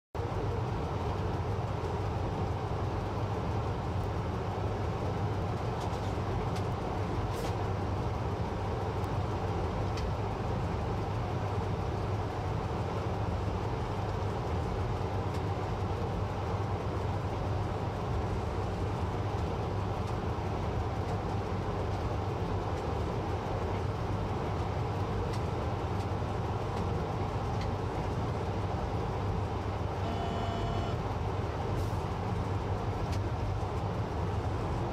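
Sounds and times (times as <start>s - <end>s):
train rumbling through tunnel: 0.2s - 34.9s.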